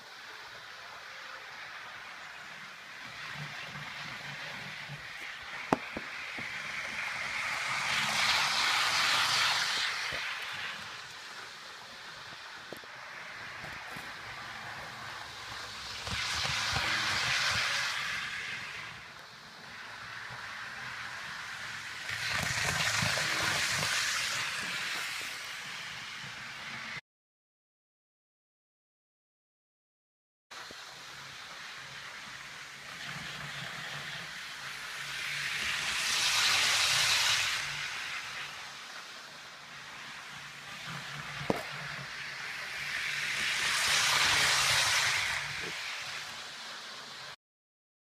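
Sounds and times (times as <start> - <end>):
model train rattling on rails: 0.0 - 27.0, 30.6 - 47.4.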